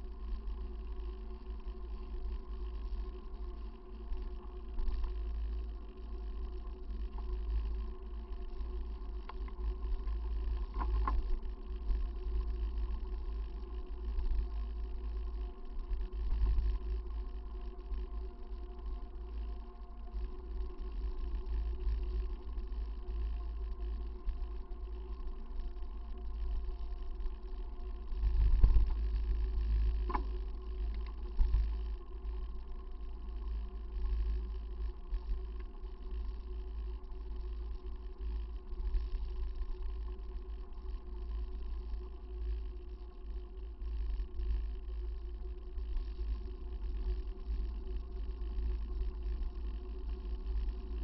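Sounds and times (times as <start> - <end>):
bicycle road rumble: 0.0 - 51.0
faint whine: 0.0 - 51.0.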